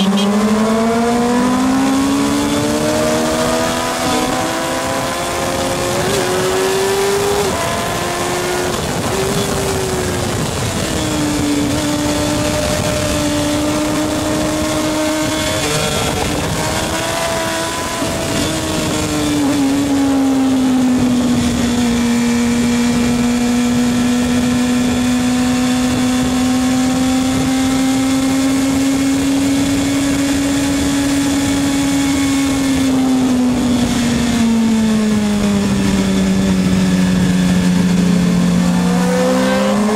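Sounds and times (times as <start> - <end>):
racing motorcycle engines revving: 0.0 - 39.9.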